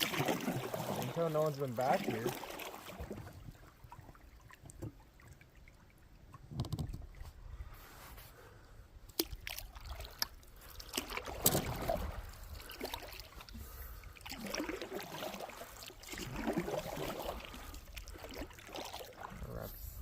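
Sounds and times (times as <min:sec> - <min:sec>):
paddle strokes splashing: 0:00.0 - 0:06.4, 0:09.1 - 0:19.9.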